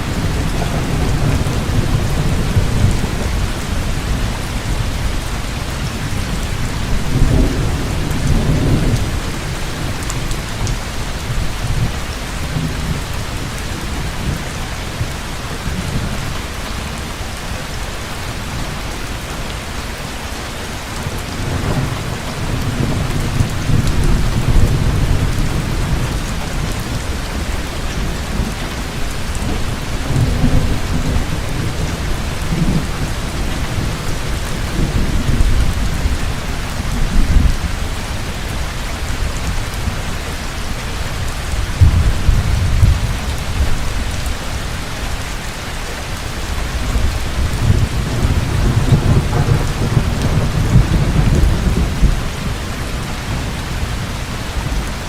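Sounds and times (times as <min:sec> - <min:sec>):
thunder rumbling: 0:00.0 - 0:16.3, 0:21.2 - 0:45.2, 0:46.5 - 0:55.0
heavy rain falling: 0:00.0 - 0:55.0.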